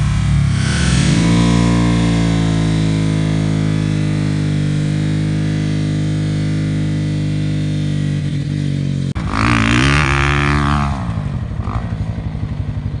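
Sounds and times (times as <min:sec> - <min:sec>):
dirt bike engine revving: 0:00.0 - 0:12.3.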